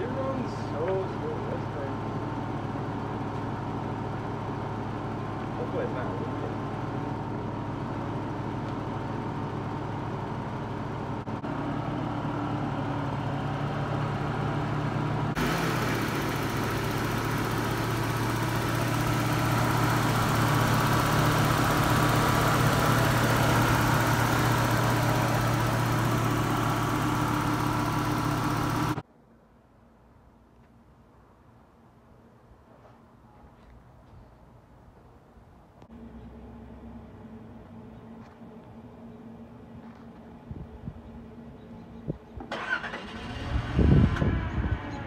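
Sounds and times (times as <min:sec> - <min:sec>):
car engine idling: 0:00.0 - 0:29.0, 0:35.8 - 0:45.0.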